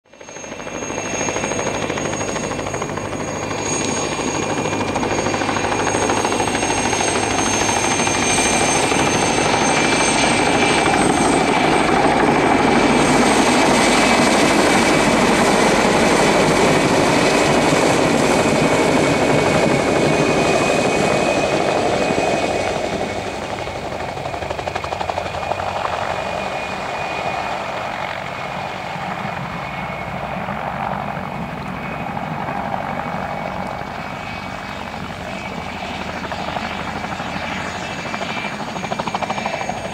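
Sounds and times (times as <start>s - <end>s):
turbine engines whining: 0.1s - 39.9s
helicopter rotor thrum: 0.2s - 39.9s.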